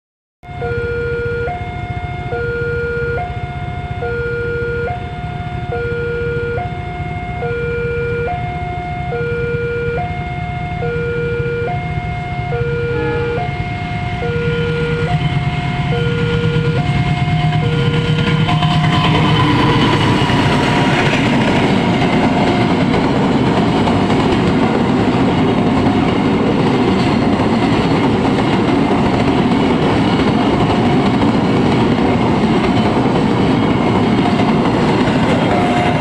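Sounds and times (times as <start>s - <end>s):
two-tone warning siren: 0.4s - 36.0s.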